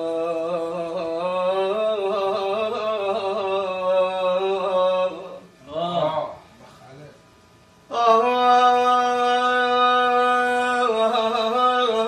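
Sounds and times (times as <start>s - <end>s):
man singing: 0.0s - 6.0s, 7.9s - 12.0s.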